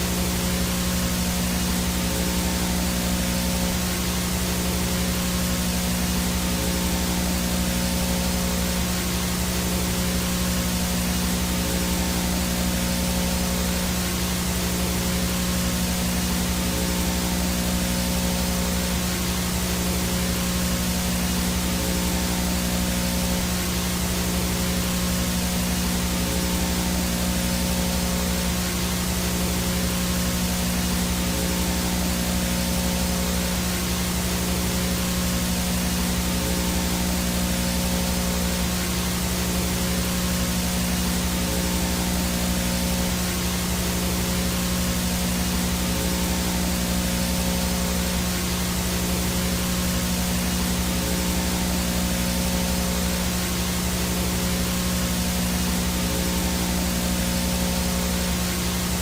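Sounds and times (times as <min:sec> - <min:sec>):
low electrical hum: 0:00.0 - 0:59.0
white noise static hiss: 0:00.0 - 0:59.0.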